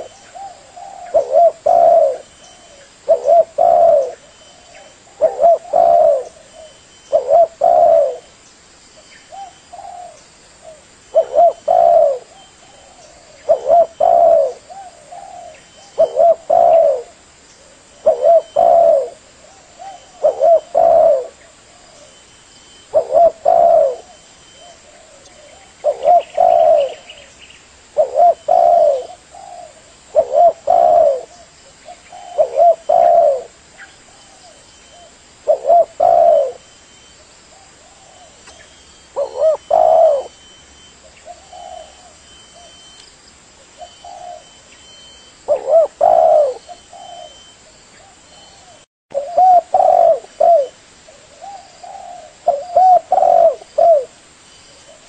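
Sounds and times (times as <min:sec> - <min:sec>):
dove cooing: 0:00.0 - 0:08.3, 0:09.3 - 0:27.3, 0:27.9 - 0:36.7, 0:37.5 - 0:43.0, 0:43.8 - 0:55.0.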